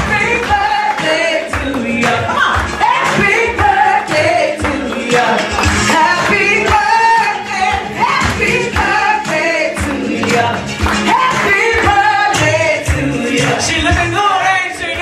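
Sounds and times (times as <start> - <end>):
backing music with steady beat: 0.0 - 15.0
woman singing: 0.0 - 15.0.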